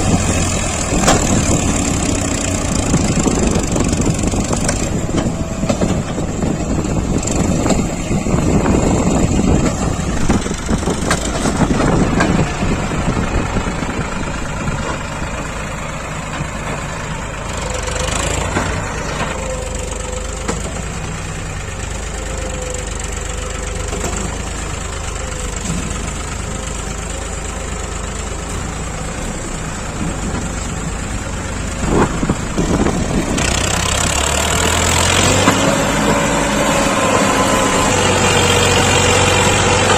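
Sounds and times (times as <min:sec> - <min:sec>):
diesel machinery engine under load: 0:00.0 - 0:39.9.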